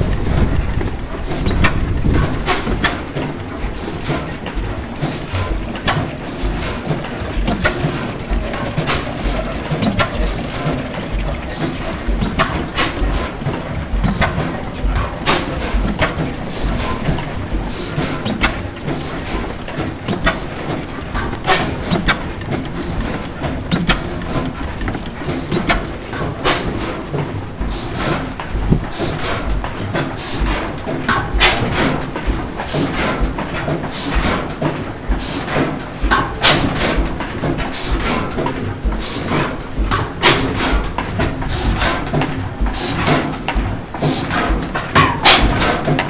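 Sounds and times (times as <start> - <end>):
oil engine thudding: 0.0 - 46.0
sharp irregular clicks: 0.1 - 46.0.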